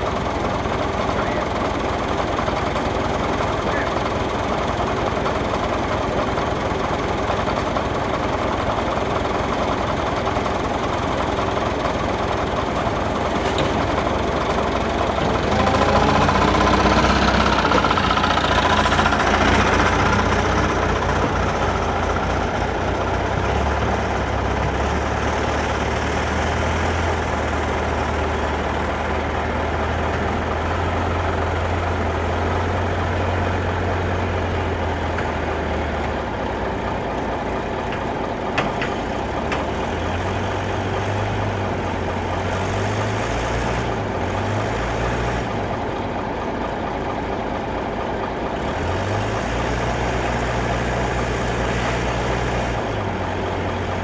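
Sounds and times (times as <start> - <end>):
diesel engine idling: 0.0 - 54.0
wheel loader driving past: 0.0 - 54.0.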